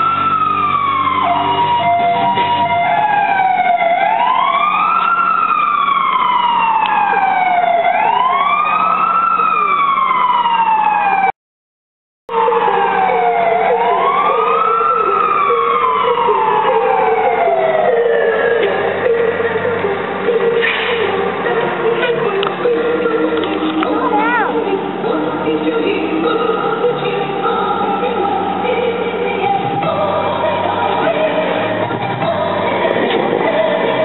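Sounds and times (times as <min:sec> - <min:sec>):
fire engine siren wailing: 0:00.0 - 0:11.4, 0:12.3 - 0:34.0.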